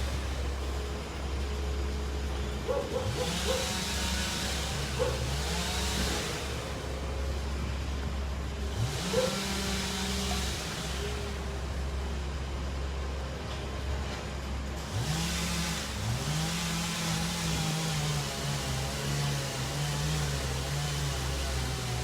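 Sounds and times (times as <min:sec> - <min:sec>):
heavy engine revving: 0:00.0 - 0:22.0.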